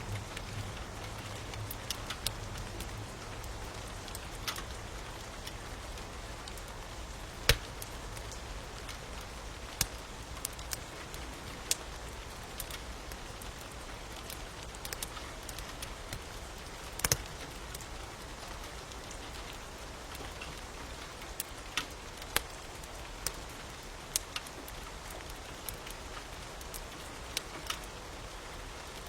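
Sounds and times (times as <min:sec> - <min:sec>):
rain falling: 0:00.0 - 0:29.0
wood fire crackling: 0:00.0 - 0:29.0.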